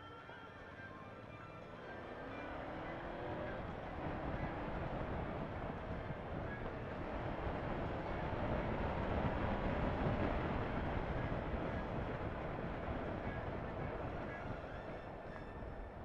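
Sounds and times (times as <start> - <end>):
wind buffeting microphone: 2.8 - 16.0.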